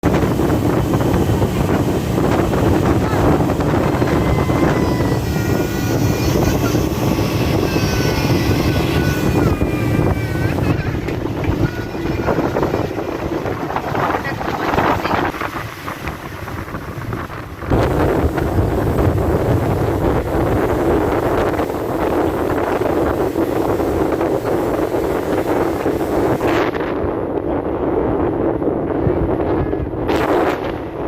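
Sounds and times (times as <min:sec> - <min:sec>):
motorboat engine rumble: 0:00.0 - 0:31.0
wind buffeting microphone: 0:00.0 - 0:31.0.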